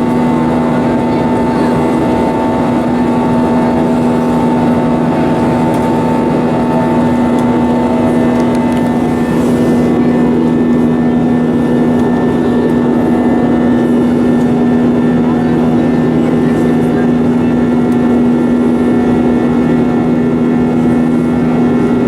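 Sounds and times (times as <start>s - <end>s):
jet engine cabin hum: 0.0s - 22.0s.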